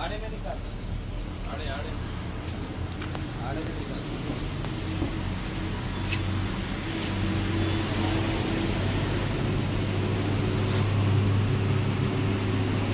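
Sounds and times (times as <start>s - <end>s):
low mechanical hum: 0.0s - 12.9s.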